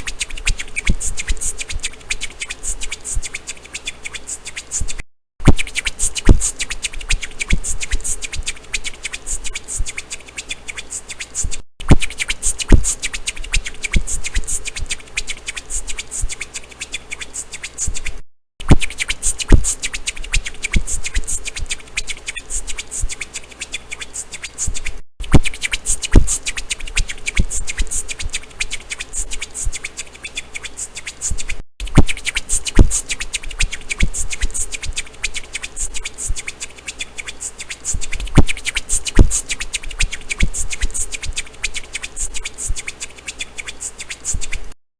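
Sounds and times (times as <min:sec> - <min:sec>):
beatbox-like percussive clicks: 0:00.0 - 0:44.6.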